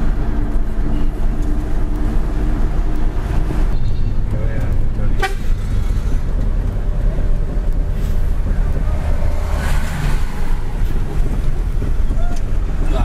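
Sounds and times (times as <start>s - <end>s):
truck diesel engine and road noise: 0.0s - 13.0s.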